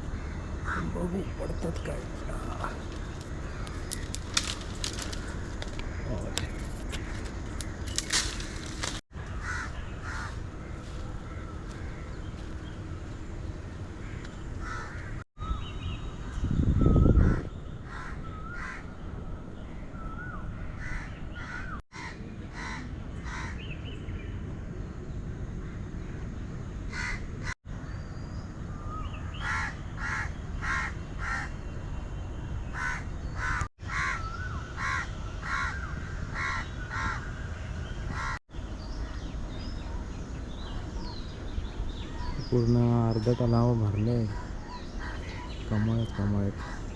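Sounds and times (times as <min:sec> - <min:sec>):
birds calling: 0:00.0 - 0:24.4, 0:26.9 - 0:46.9
outdoor background noise: 0:00.0 - 0:46.9.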